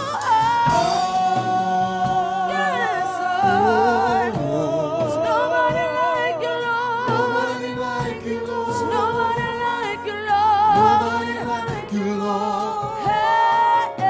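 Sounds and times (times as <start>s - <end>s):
keyboard accompaniment: 0.0s - 14.0s
women singing gospel song: 0.0s - 14.0s.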